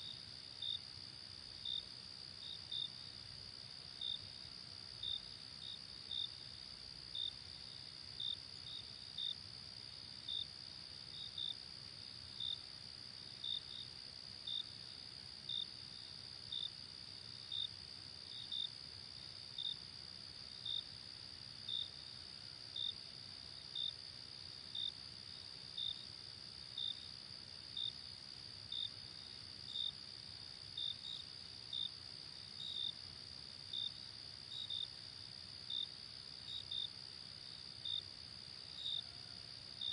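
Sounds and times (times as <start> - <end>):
crickets trilling and chirping: 0.0 - 39.9.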